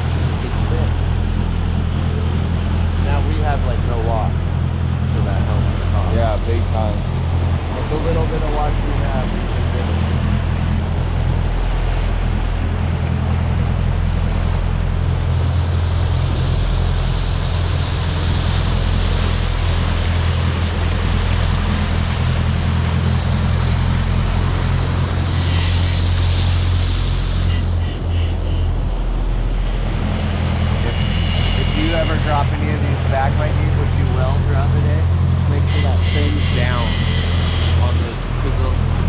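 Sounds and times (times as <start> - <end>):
boat engine droning: 0.0 - 39.0
wake churning and rushing: 0.0 - 39.0.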